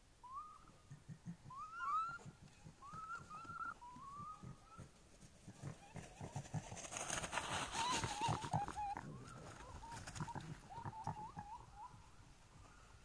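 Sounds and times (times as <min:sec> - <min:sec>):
wavering animal calls: 0:00.2 - 0:12.9.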